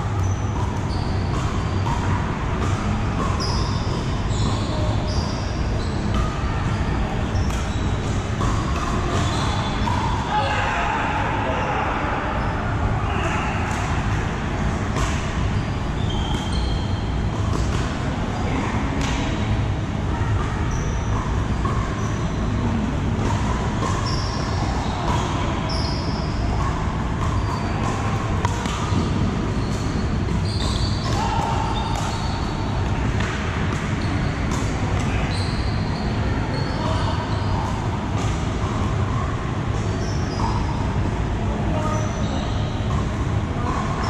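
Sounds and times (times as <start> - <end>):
sneaker squeaks on hard floor: 0.0 - 10.5, 13.2 - 19.4, 20.2 - 41.1, 41.7 - 44.0
faint chatter: 0.0 - 44.0.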